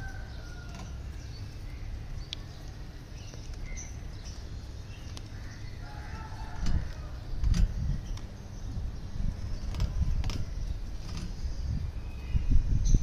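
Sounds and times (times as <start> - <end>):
lovebirds chirping and whistling: 0.0 - 13.0.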